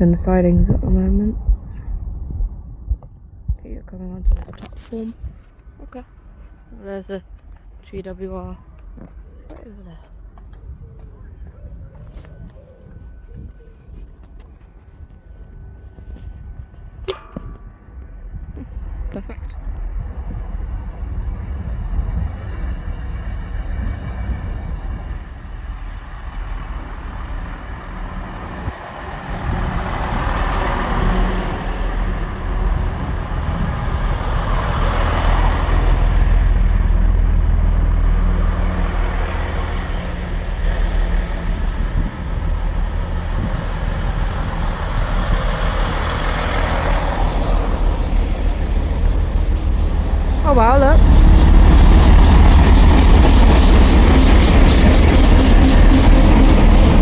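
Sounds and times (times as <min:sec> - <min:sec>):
train engine rumble: 0:00.0 - 0:57.0.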